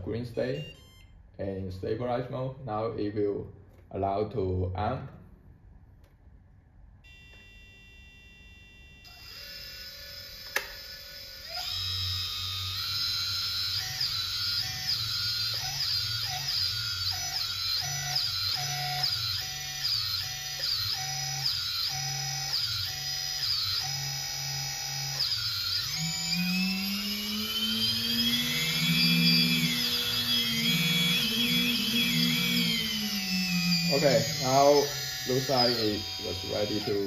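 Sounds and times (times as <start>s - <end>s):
drone motors whining: 7.1s - 37.0s.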